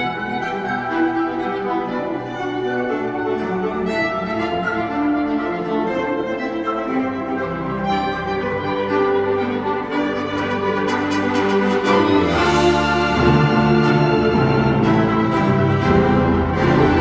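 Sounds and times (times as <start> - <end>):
wind band playing held chords: 0.0 - 17.0.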